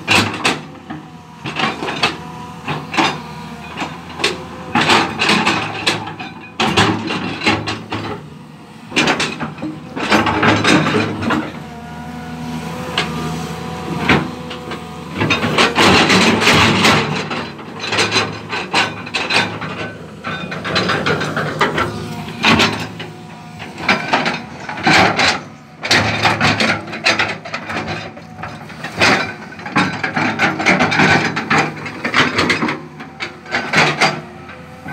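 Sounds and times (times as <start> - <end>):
steel tracks and bucket clanking on rock: 0.0 - 12.1, 12.7 - 34.9
excavator diesel engine: 0.0 - 34.9.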